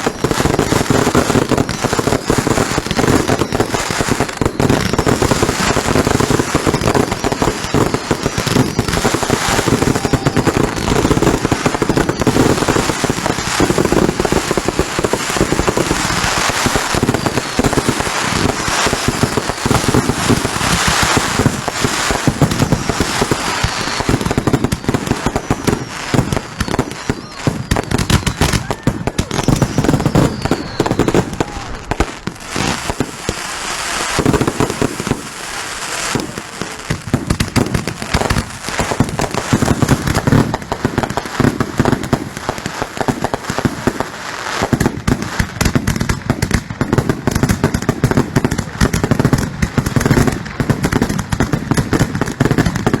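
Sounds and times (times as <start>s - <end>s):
firework whistles: 0.0s - 53.0s
fireworks banging and crackling: 0.0s - 53.0s.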